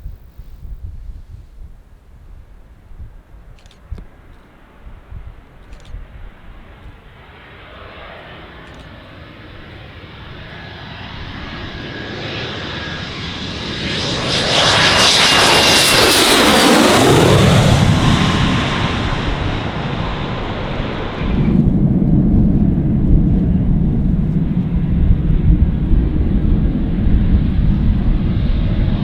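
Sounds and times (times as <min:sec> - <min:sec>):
jet engines on take-off: 0:03.6 - 0:29.0.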